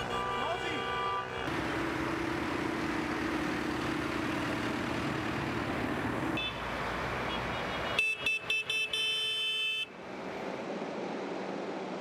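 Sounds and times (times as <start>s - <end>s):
tractor engines humming: 0.0s - 12.0s.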